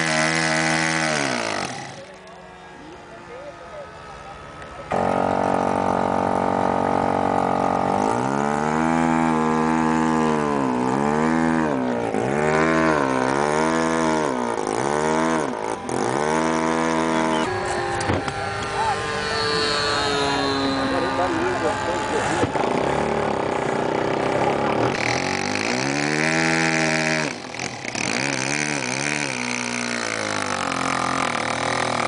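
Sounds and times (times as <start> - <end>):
model airplane engine revving: 0.0 - 32.0.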